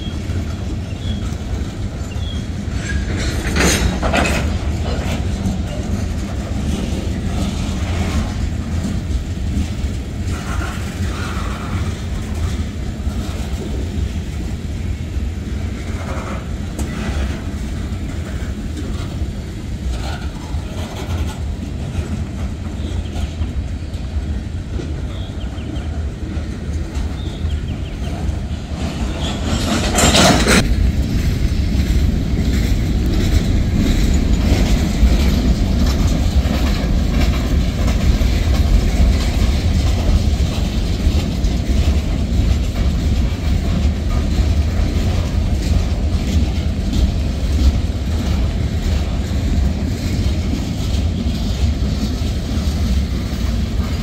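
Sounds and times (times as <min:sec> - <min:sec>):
freight train rumbling: 0:00.0 - 0:54.0
wheels clacking over rail joints: 0:00.0 - 0:54.0.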